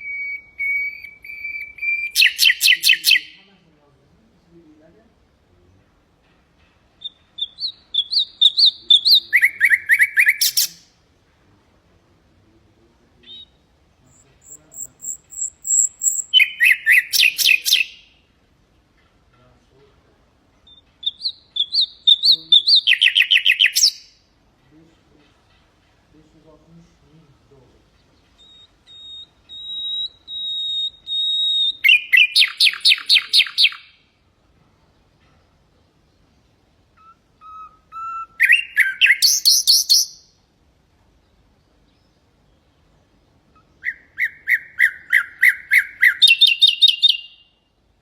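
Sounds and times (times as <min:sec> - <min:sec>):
nightingale singing: 0:00.0 - 0:03.6, 0:06.8 - 0:11.0, 0:12.5 - 0:18.4, 0:20.5 - 0:34.2, 0:34.9 - 0:40.5, 0:41.1 - 0:47.8.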